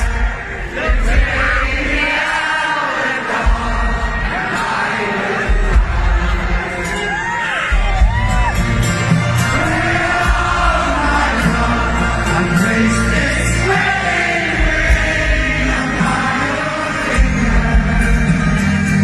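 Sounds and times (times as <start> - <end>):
crowd singing along: 0.0 - 19.0
live pop-rock music with singing: 0.0 - 19.0.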